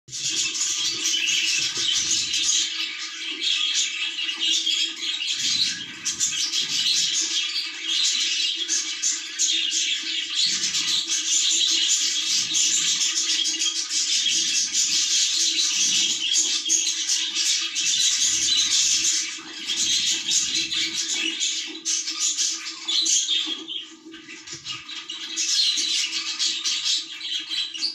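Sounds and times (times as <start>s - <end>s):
budgerigars chirping: 0.1s - 27.9s.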